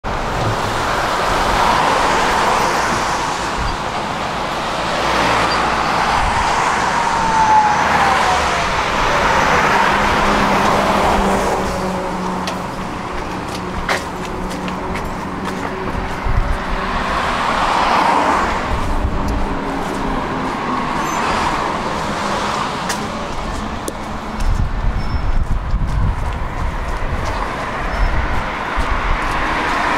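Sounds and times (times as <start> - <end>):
vehicles passing by: 0.0 - 29.9.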